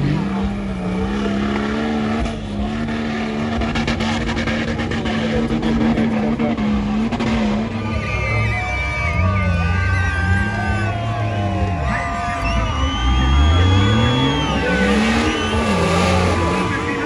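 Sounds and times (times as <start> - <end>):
engine running hard under load: 0.0 - 17.0.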